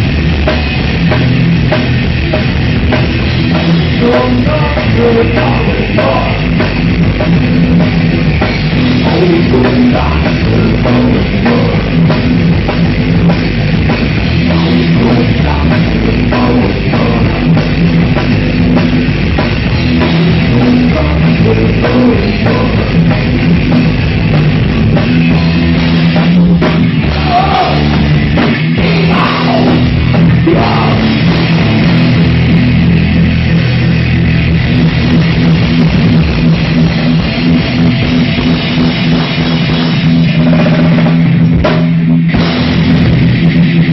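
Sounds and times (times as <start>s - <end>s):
bass guitar: 0.0s - 43.9s
drum kit: 0.0s - 43.9s
electric guitar: 0.0s - 43.9s.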